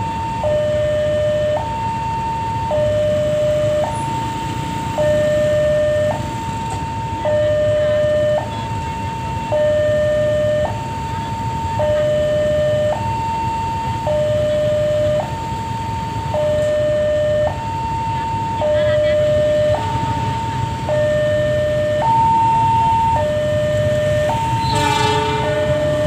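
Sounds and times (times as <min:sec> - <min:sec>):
two-tone level crossing alarm: 0:00.0 - 0:26.0.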